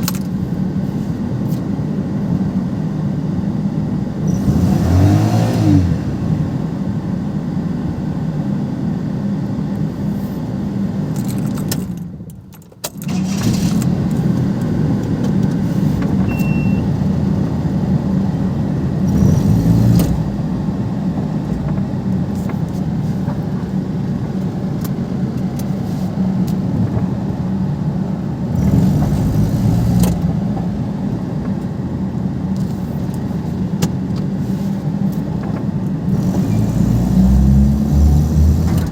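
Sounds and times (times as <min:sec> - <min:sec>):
car engine: 0:00.0 - 0:38.9
road noise: 0:00.0 - 0:38.9.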